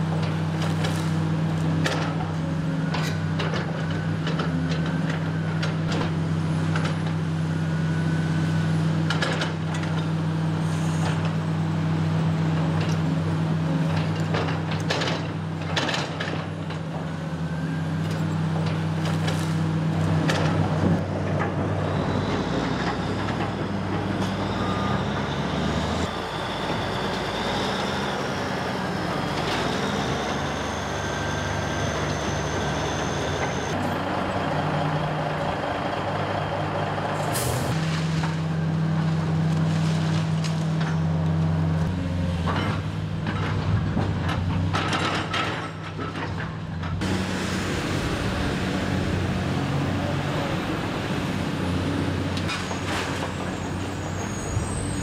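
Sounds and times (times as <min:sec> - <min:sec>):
diesel machinery running: 0:00.0 - 0:55.0.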